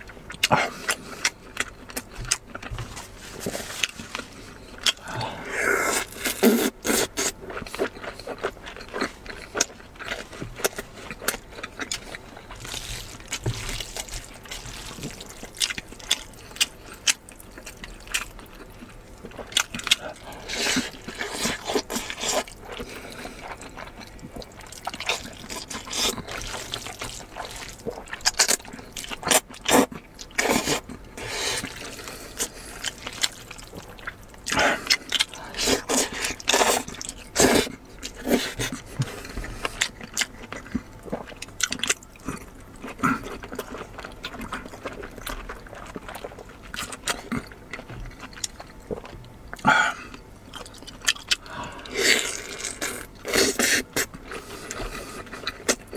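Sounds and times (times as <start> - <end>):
wet chewing and lip smacking: 0.2 - 5.1, 5.8 - 55.9.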